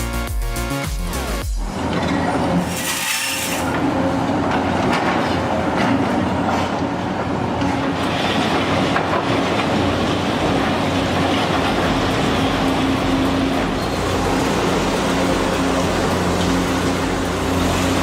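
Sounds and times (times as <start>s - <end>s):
heavy machinery working: 1.6s - 18.0s.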